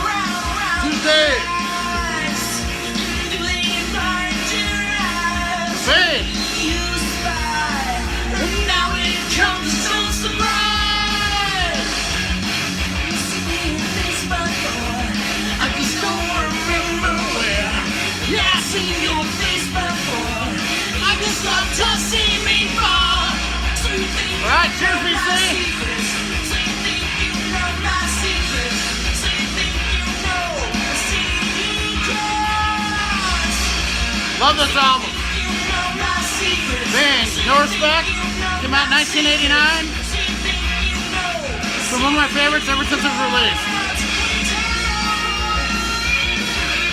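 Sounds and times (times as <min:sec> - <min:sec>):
drums: 0:00.0 - 0:46.9
electric guitars: 0:00.0 - 0:46.9
rock song with singing: 0:00.0 - 0:46.9.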